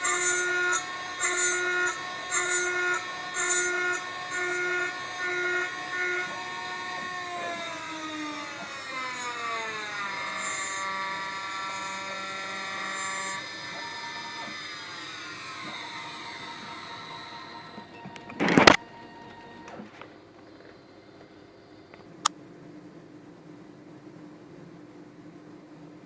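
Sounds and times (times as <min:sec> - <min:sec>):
machine motors whining: 0:00.0 - 0:23.1.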